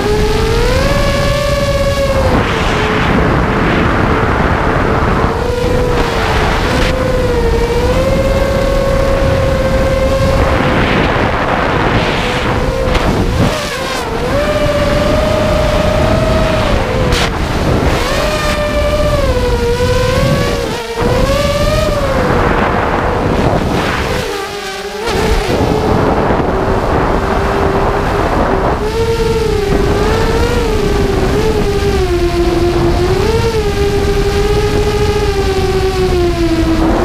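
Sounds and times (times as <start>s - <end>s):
drone motors whining: 0.0s - 37.0s
wind rushing: 0.0s - 37.0s.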